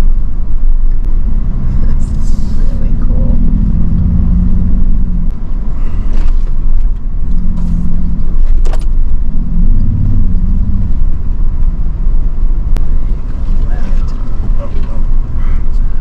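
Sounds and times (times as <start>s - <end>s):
vehicle engine driving off-road: 0.0s - 16.0s.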